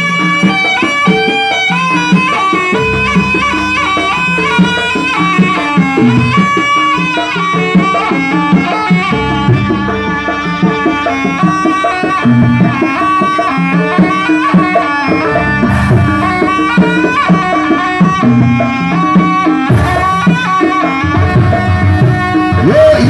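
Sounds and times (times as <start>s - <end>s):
hand drum patterns: 0.0s - 23.0s
traditional ensemble melody: 0.0s - 23.0s.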